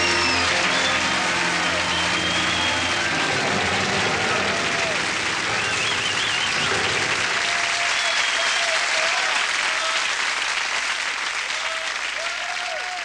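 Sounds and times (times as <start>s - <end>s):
audience applauding: 0.0s - 13.0s
audience cheering: 0.0s - 13.0s.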